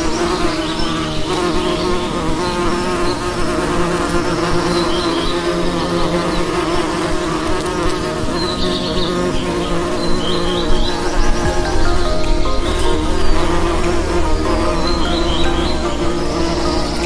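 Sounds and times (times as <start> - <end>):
bee buzzing: 0.0 - 17.0.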